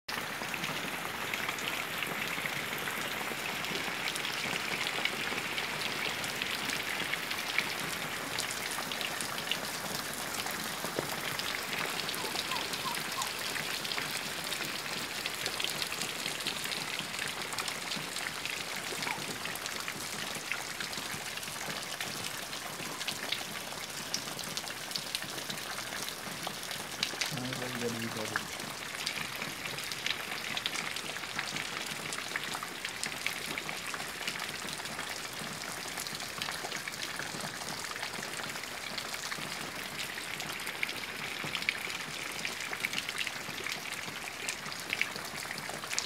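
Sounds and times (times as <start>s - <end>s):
rain falling on standing water: 0.1s - 46.0s.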